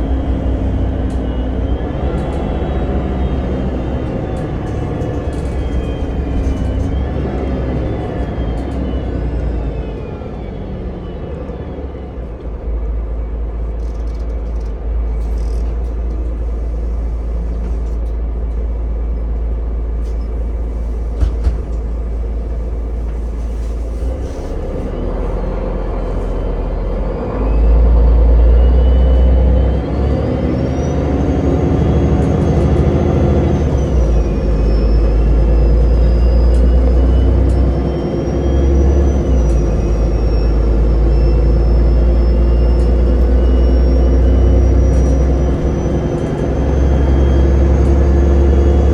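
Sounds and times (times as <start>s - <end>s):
bus drive rumble and road noise: 0.0s - 48.9s
high whine of bus: 0.0s - 48.9s.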